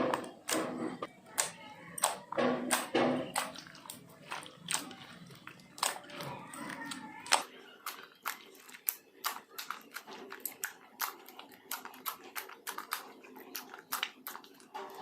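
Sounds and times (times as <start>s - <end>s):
slime crackling and popping: 1.3s - 15.0s.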